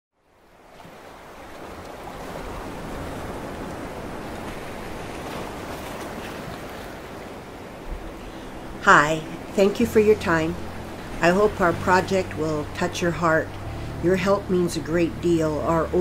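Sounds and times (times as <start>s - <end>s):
ocean surf: 0.2s - 16.0s.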